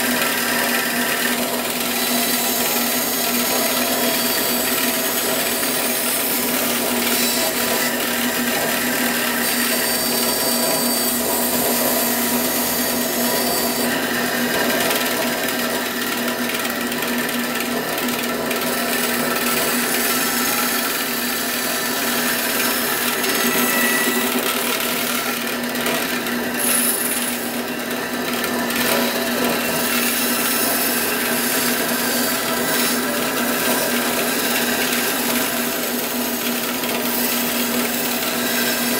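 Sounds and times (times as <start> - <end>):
bandsaw cutting: 0.0 - 38.9.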